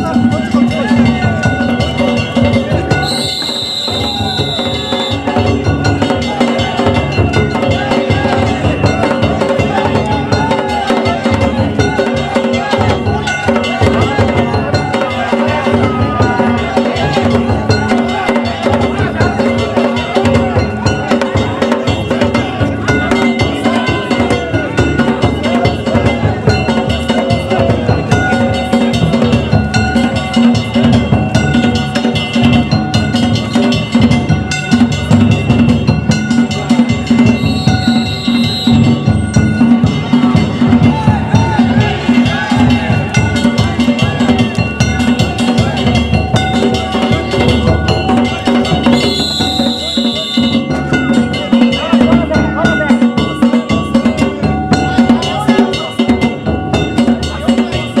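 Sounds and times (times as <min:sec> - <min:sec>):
hand gongs ringing: 0:00.0 - 0:58.0
taiko drums beating: 0:00.0 - 0:58.0.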